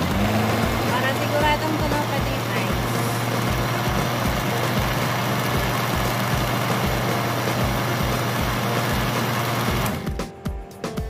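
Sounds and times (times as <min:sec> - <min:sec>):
blender whirring: 0:00.0 - 0:10.2.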